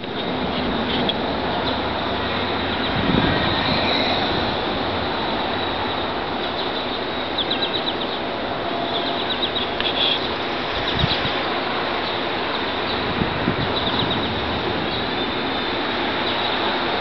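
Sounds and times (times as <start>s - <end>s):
rushing background noise: 0.0s - 17.0s
small birds trilling: 0.1s - 17.0s.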